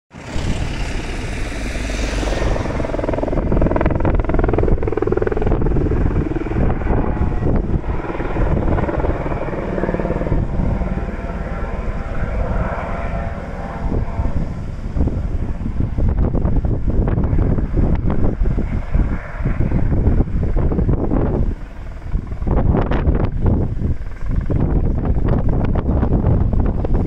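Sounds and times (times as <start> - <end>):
distant helicopter drone: 0.1 - 27.0
wind rumble on microphone: 0.1 - 27.0.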